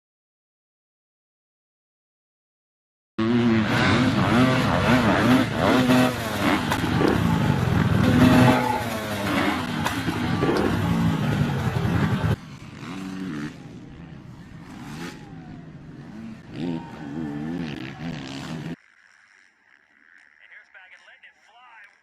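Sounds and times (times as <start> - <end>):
dirt bike engines revving: 3.2 - 21.9.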